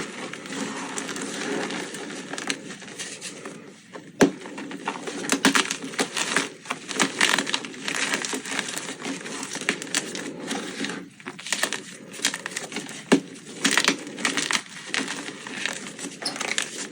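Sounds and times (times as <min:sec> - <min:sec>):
chalk crunching and crumbling: 0:00.0 - 0:16.9.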